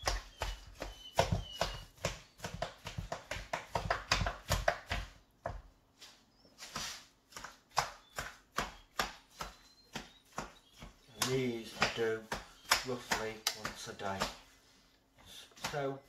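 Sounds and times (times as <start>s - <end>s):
knife chopping food: 0.0s - 5.6s, 7.3s - 14.6s.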